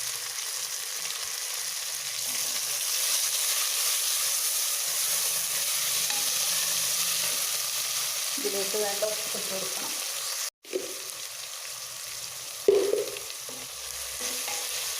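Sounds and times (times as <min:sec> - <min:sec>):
vegetables sizzling in hot oil: 0:00.0 - 0:14.9.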